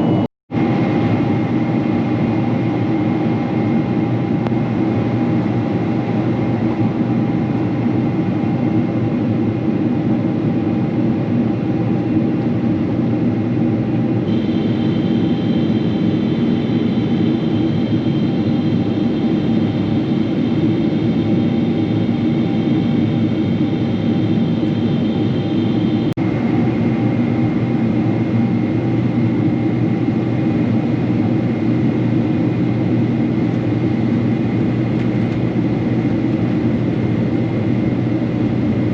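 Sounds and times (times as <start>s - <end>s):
high-pitched whine: 0.0s - 9.7s, 14.1s - 38.9s
airliner cabin engine roar: 0.0s - 38.9s.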